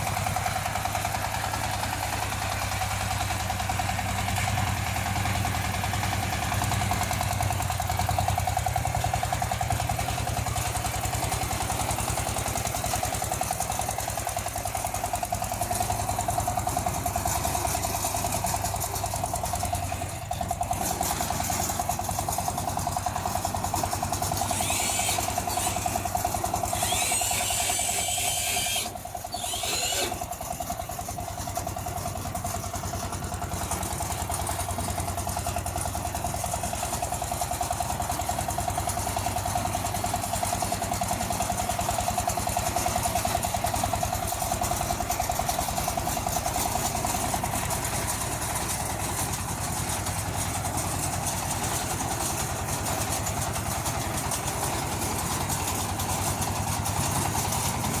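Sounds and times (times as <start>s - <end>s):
small tractor engine running: 0.0s - 58.0s.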